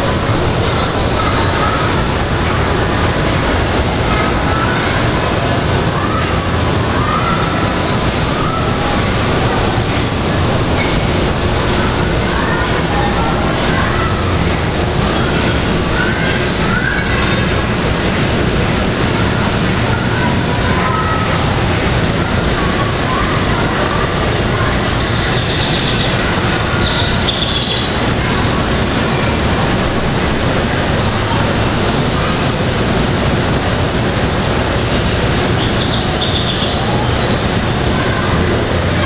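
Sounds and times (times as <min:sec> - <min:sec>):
model trains rumbling: 0:00.0 - 0:39.0.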